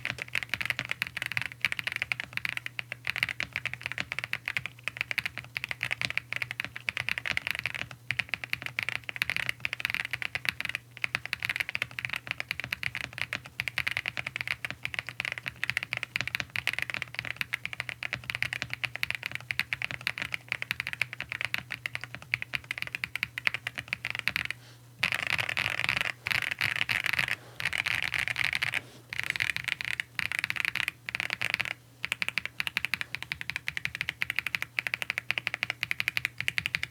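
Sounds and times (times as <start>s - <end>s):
fast mechanical keyboard typing: 0.0s - 36.9s.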